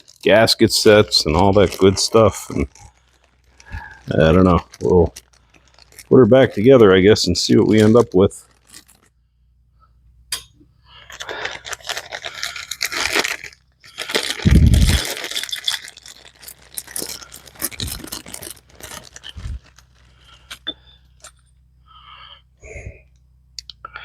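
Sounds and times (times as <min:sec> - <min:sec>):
rustling and scraping: 0:00.0 - 0:09.2, 0:10.9 - 0:21.5.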